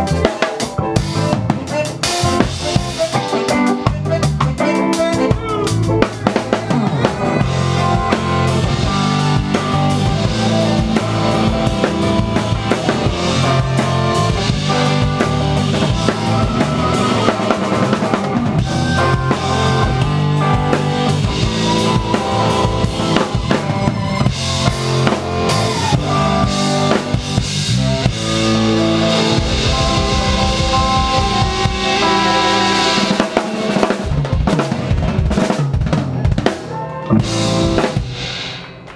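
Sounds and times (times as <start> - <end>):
drum kit: 0.0 - 38.9
live reggae band: 0.0 - 38.9.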